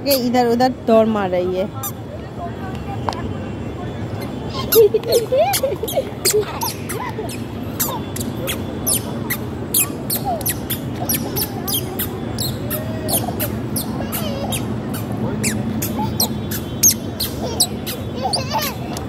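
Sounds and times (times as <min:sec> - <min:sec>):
squeaky shoes squeaking: 0:00.0 - 0:00.4, 0:01.8 - 0:02.0, 0:04.1 - 0:19.0.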